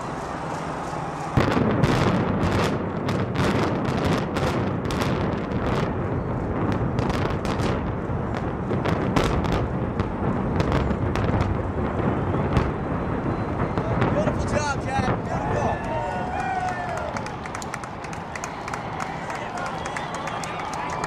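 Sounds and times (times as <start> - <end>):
deep rumble of collapse: 0.0 - 19.1.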